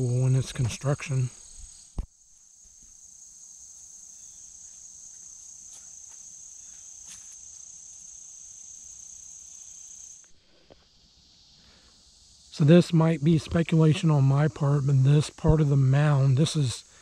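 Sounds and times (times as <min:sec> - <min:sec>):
high-pitched insect trilling: 0:00.0 - 0:17.0.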